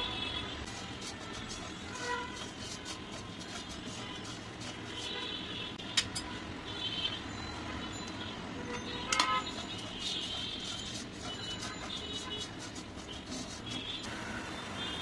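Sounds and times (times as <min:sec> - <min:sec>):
spatula stirring noodles in a wok: 0:00.1 - 0:06.5, 0:08.7 - 0:15.0.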